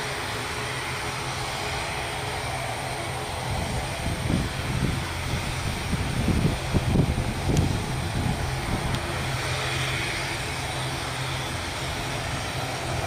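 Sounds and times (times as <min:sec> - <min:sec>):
turboprop engines droning: 0:00.0 - 0:13.0
uneven low rumbling surges: 0:00.0 - 0:13.0.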